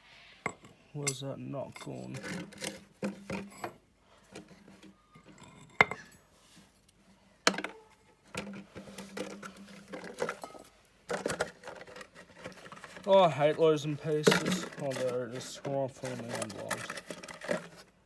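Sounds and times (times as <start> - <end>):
metal parts and tools clinking: 0.4 - 6.3, 7.5 - 17.9.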